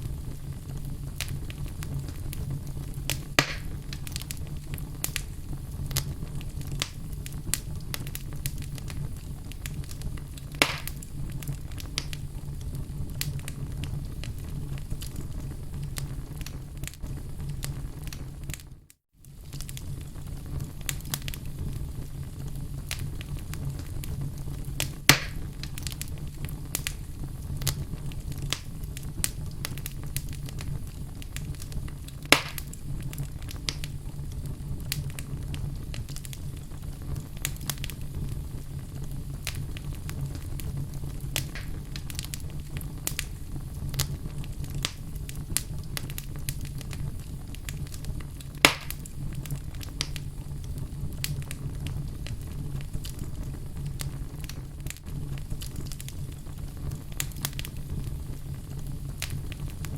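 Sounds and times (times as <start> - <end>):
loud fire pops: 0.0 - 59.9
low fire rumble: 0.0 - 59.9
wood fire crackling: 0.0 - 59.9.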